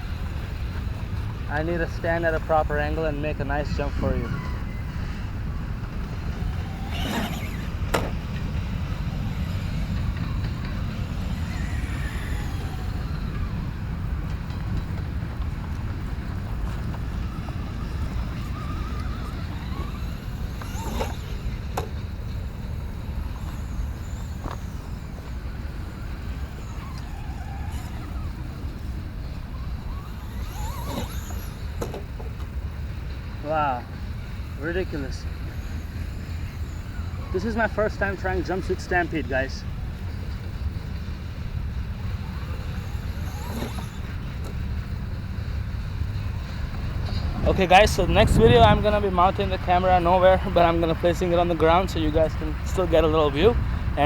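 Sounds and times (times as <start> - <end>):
toy truck motor whining: 0.0 - 54.0
wind rumble on microphone: 0.0 - 54.0.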